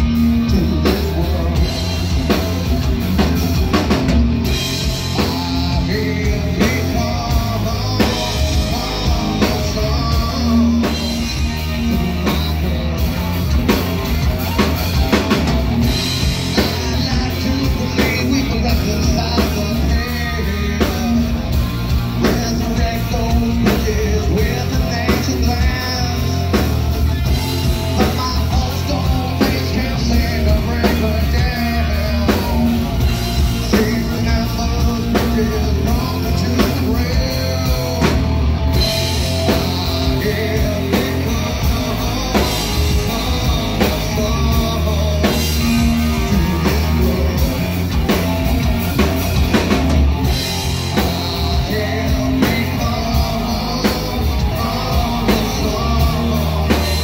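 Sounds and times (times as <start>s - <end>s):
bass guitar: 0.0s - 57.0s
drum kit beat: 0.0s - 57.0s
electric guitar: 0.0s - 57.0s
man singing lead: 0.0s - 57.0s.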